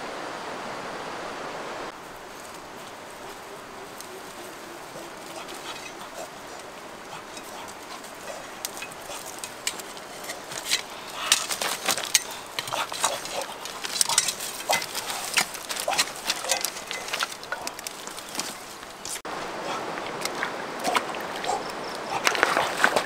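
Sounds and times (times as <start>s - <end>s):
dry leaves and twigs crackling: 1.9s - 23.0s.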